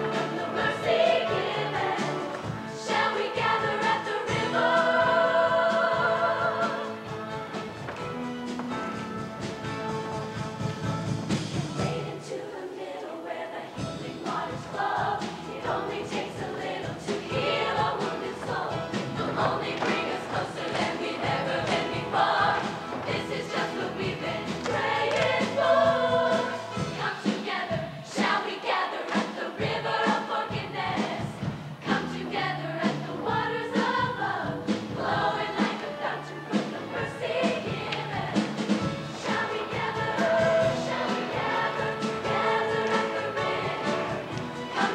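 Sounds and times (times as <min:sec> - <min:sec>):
choir singing: 0:00.0 - 0:07.6, 0:11.7 - 0:44.9
musical backing: 0:00.0 - 0:44.9.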